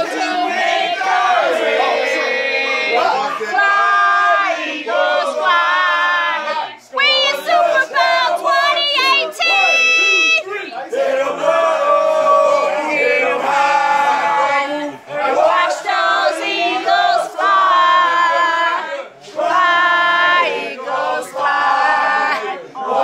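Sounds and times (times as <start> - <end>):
group singing loudly: 0.0 - 23.0.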